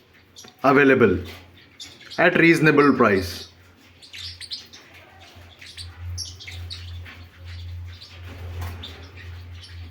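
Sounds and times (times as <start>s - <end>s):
parrotlets chirping: 0.0s - 9.9s.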